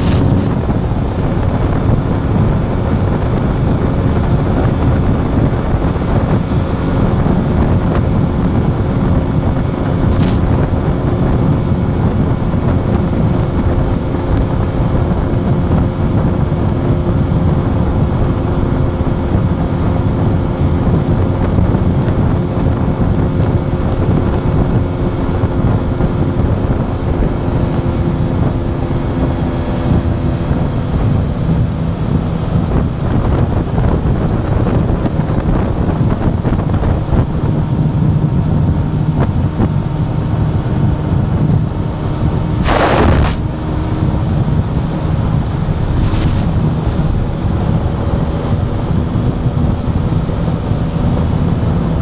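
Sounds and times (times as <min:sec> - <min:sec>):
motorcycle engine droning: 0:00.0 - 0:52.0
wind buffeting microphone: 0:00.0 - 0:52.0.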